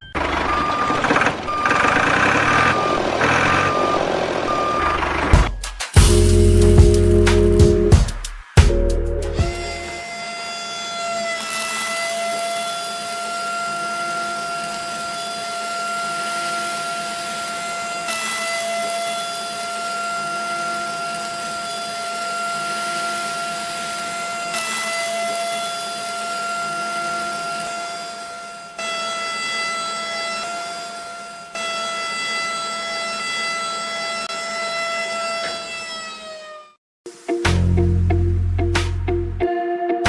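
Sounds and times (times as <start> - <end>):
small electric motor whining: 0.2 - 5.3, 9.5 - 36.8.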